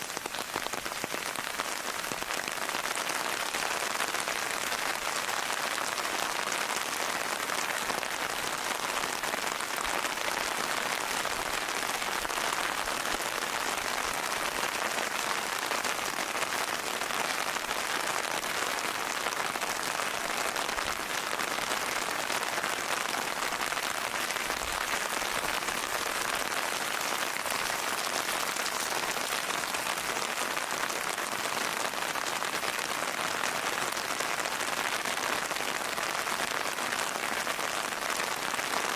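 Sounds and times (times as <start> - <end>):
steady rain on a surface: 0.0 - 38.9.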